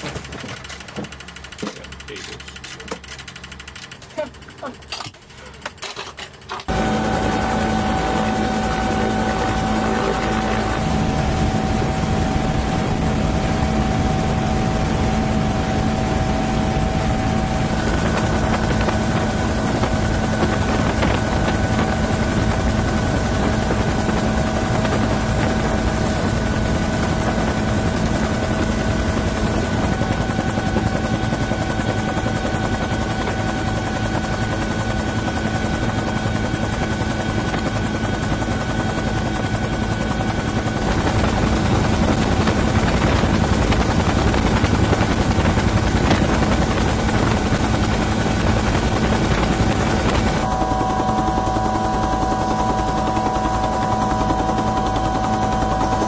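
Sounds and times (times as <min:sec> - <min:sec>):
helicopter rotor beating: 0:00.0 - 0:05.0, 0:06.7 - 0:56.0
helicopter turbine whine: 0:06.7 - 0:56.0.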